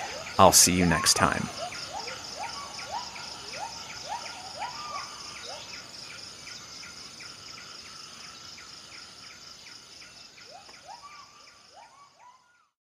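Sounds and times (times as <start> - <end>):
insect chorus: 0.0 - 12.7.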